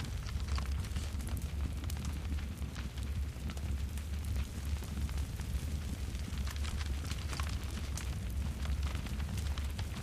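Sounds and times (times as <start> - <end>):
burning wood crackling and popping: 0.0 - 10.0
low rumble of flames: 0.0 - 10.0.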